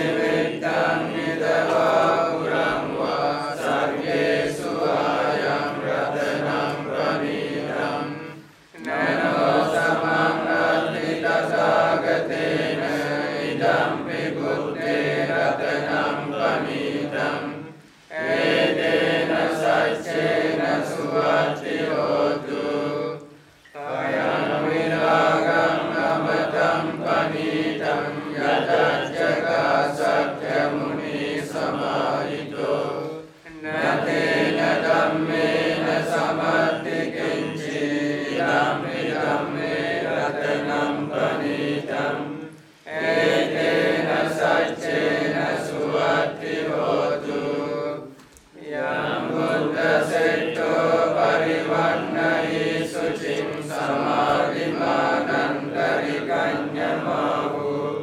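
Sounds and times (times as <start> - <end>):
group chanting in unison: 0.0 - 58.0.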